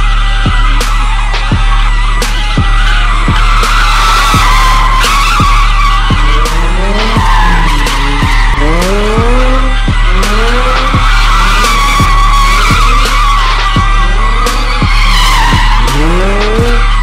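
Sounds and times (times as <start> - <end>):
truck engine revving: 0.0 - 17.0
tyres screeching: 0.0 - 17.0.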